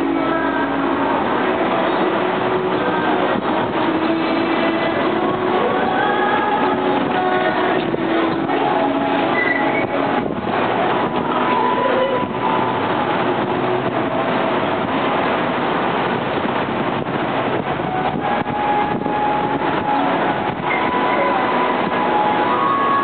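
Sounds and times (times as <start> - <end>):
fountain water jets hissing: 0.0 - 23.0.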